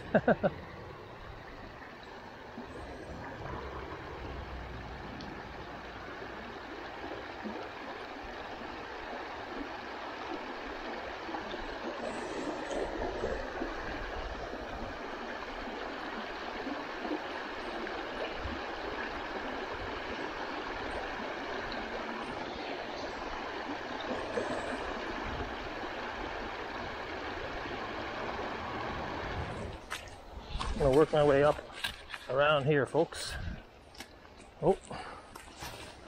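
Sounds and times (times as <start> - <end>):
brook water rushing: 0.0 - 36.0.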